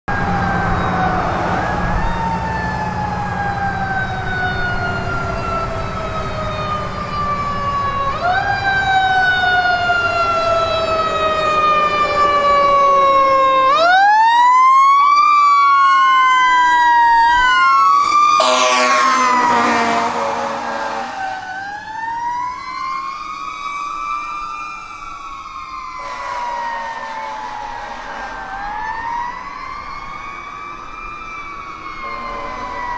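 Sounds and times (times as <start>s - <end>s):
fire truck siren wailing: 0.0s - 32.9s
second siren tone sweeping: 0.1s - 14.0s, 16.5s - 32.9s
traffic road rumble: 0.1s - 32.9s.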